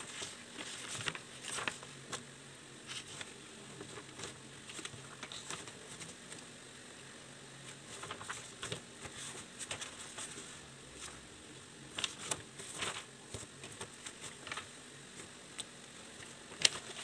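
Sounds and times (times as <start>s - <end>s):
paper handling: 0.0s - 6.5s, 7.6s - 11.2s, 11.9s - 17.0s.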